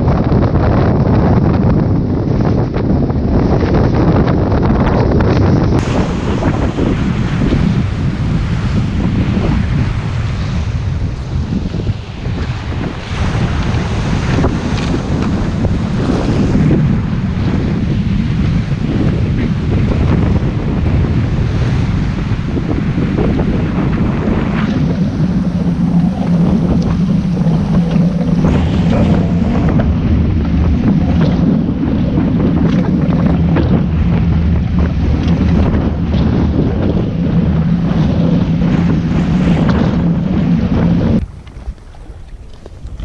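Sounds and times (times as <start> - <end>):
strong wind on microphone: 0.0 - 43.0
waves breaking along hull: 0.0 - 43.0.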